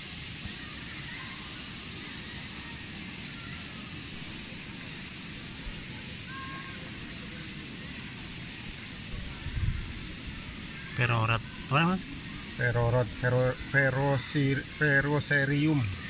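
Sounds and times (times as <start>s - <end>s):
even hiss: 0.0s - 16.0s.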